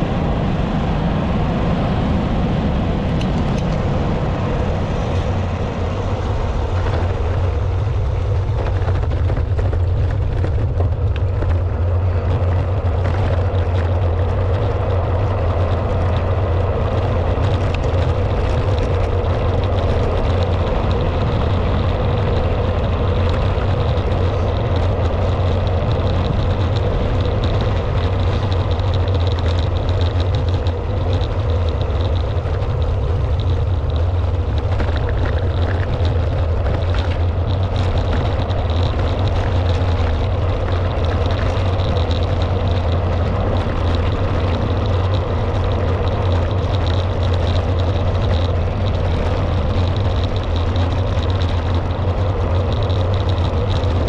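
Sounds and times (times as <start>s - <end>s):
bicycle tyres on coarse road: 0.0s - 54.0s
wind rumble on microphone: 0.0s - 54.0s.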